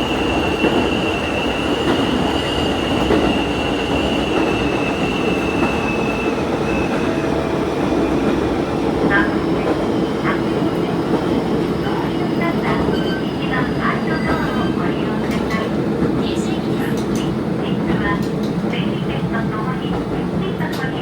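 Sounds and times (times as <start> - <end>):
railcar engine and rail noise: 0.0 - 21.0.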